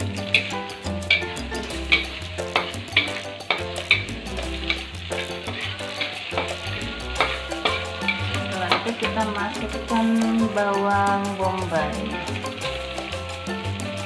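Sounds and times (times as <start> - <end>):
metal spatula scraping wok: 0.0 - 14.0
vegetables sizzling: 0.0 - 14.0.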